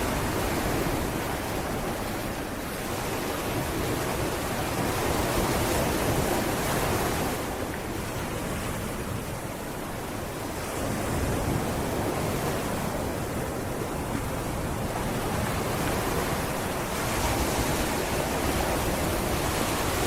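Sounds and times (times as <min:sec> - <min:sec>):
sea waves breaking on beach: 0:00.0 - 0:20.0.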